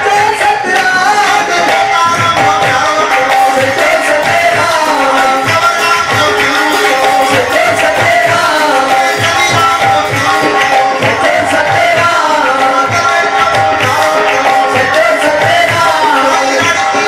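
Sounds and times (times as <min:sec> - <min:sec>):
men chanting through microphones: 0:00.0 - 0:17.0
tabla beat: 0:00.0 - 0:17.0.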